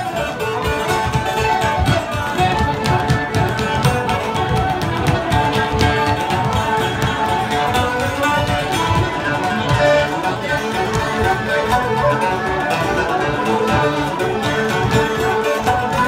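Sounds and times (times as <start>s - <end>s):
fiddle dance music: 0.0s - 16.0s
plucked strings: 0.0s - 16.0s.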